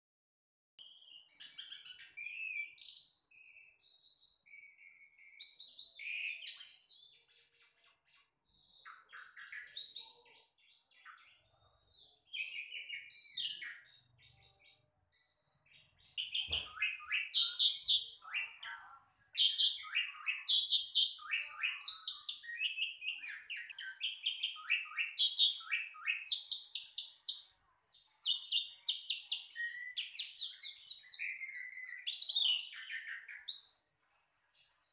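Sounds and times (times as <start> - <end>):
songbird chirps and trills: 0.8 - 34.9.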